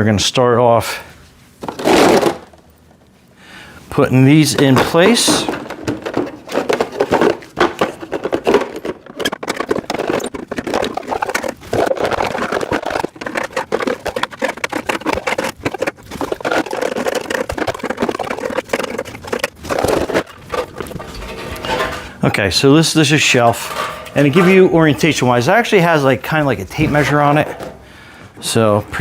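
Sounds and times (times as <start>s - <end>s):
rack parts clicking and knocking: 4.3s - 28.0s.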